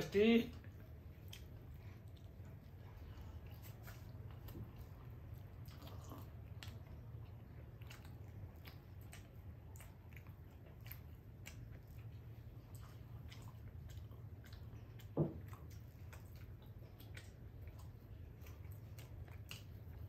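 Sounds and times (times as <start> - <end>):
low steady hum: 0.0 - 20.0
people chewing food: 0.0 - 20.0.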